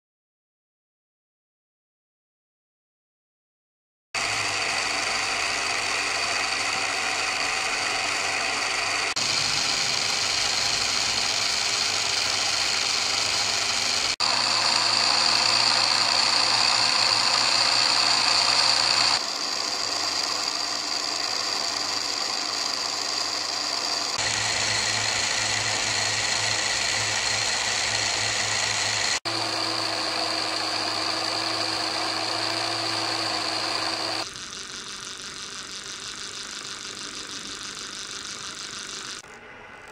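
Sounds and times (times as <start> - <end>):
model train motor whirring: 4.2 - 39.9.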